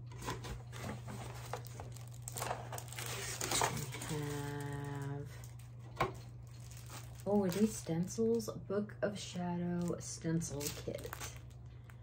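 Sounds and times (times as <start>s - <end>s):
low hum: 0.0s - 12.0s
packaging crinkling and rustling: 0.1s - 8.5s, 9.7s - 12.0s.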